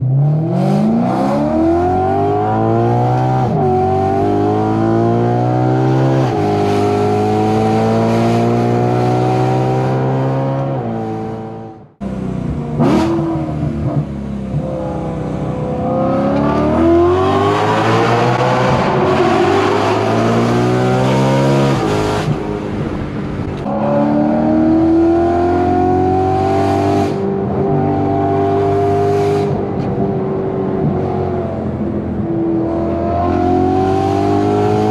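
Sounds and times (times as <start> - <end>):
car engine accelerating hard: 0.0 - 34.9.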